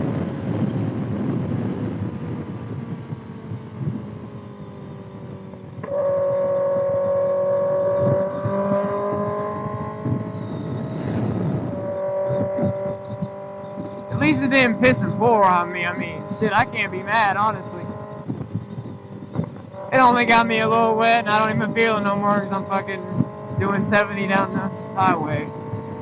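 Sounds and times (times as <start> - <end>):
motorcycle engine revving: 0.0 - 26.0
wind rushing over microphone: 0.0 - 26.0.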